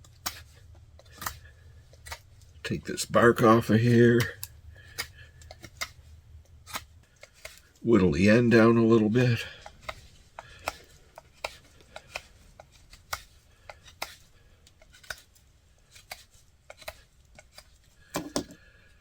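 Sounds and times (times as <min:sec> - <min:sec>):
knife whittling wood: 0:00.0 - 0:07.8, 0:08.5 - 0:18.7.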